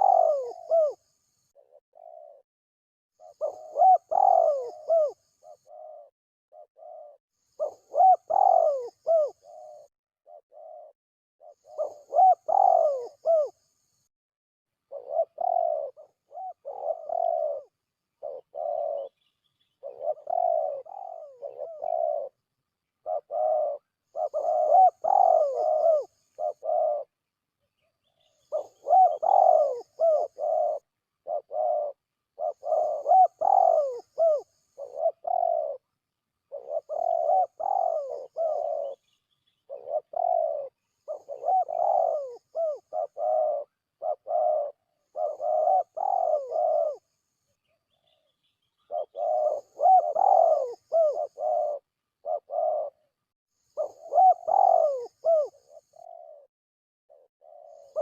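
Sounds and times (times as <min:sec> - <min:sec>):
dove cooing: 0:00.0 - 0:02.4, 0:03.2 - 0:13.8, 0:14.8 - 0:27.2, 0:28.0 - 0:56.5, 0:57.1 - 0:58.0.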